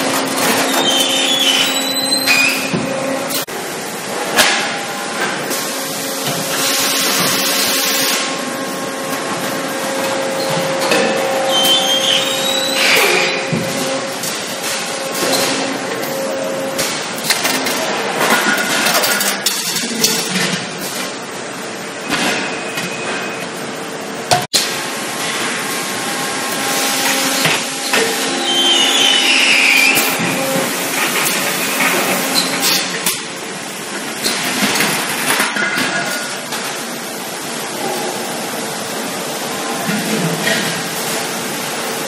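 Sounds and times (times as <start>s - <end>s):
machine hum with held tone: 0.0s - 20.6s, 21.2s - 34.2s.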